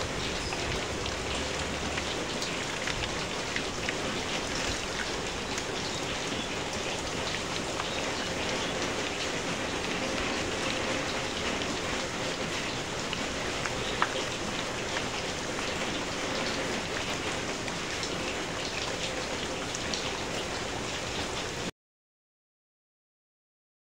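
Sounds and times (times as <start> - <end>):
raindrops ticking: 0.0 - 21.6
steady rain hiss: 0.0 - 21.7.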